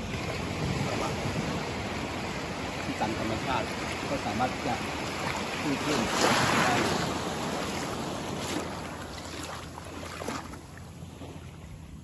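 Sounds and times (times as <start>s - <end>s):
sea wave washing ashore: 0.0s - 12.0s.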